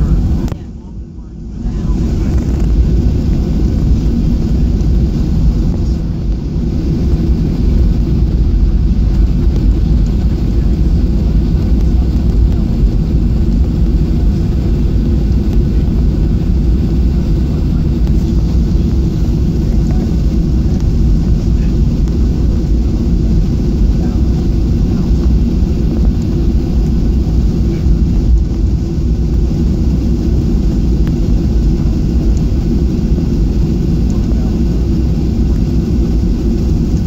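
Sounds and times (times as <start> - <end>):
jet engines low rumble in cabin: 0.0 - 37.0.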